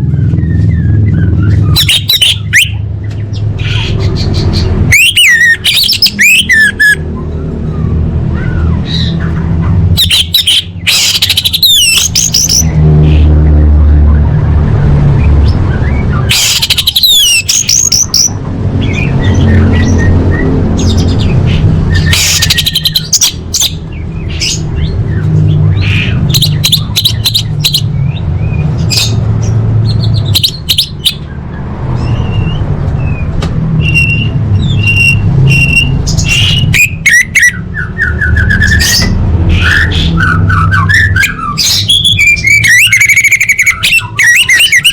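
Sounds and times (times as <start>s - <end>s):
thrush chirps and sweeping calls: 0.0s - 44.9s.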